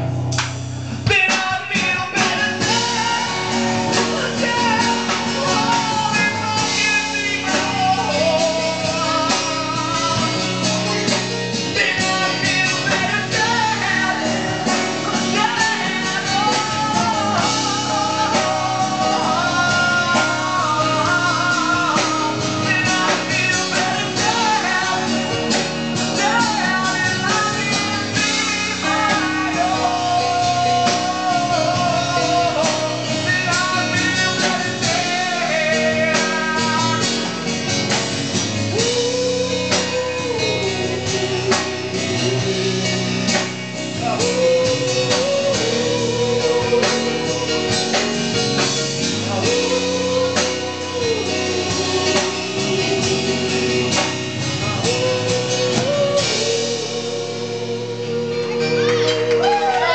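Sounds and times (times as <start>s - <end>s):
drums: 0.0s - 59.9s
electric guitars: 0.0s - 59.9s
sliding held melody line: 1.0s - 59.9s.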